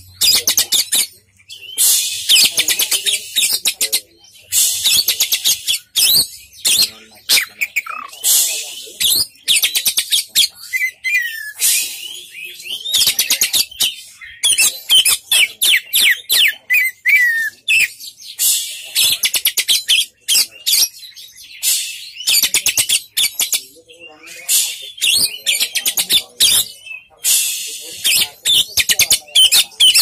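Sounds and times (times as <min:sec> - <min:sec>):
songbird singing varied song: 0:00.0 - 0:30.0.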